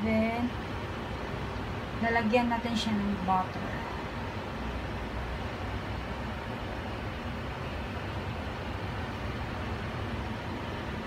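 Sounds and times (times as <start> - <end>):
steady background rumble: 0.0 - 11.0.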